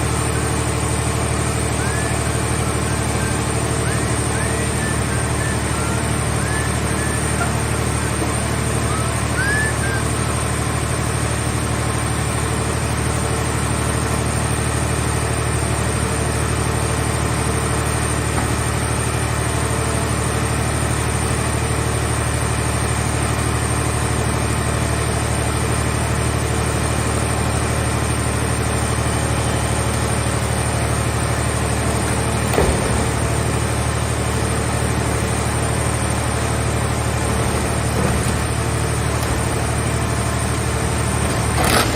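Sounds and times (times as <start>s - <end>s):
heavy engine running steadily: 0.0s - 41.9s.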